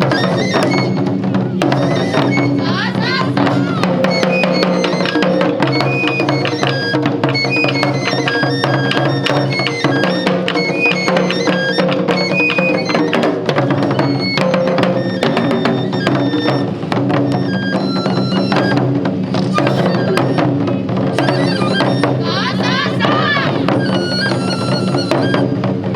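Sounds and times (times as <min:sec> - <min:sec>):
high flute short notes: 0:00.0 - 0:25.7
taiko drum ensemble: 0:00.0 - 0:25.9.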